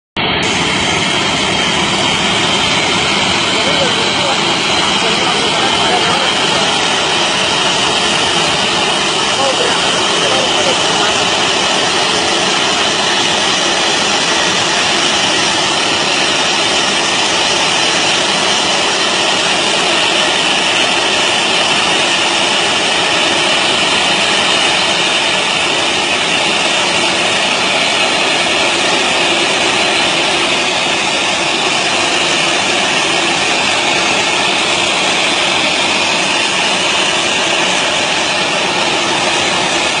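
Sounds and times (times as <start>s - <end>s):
jet airliner engine roar: 0.2s - 40.0s.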